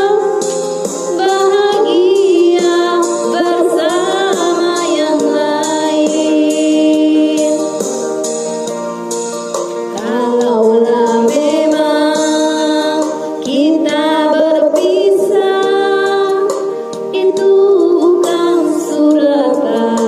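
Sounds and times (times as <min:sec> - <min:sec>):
music with singing voice: 0:00.0 - 0:20.0.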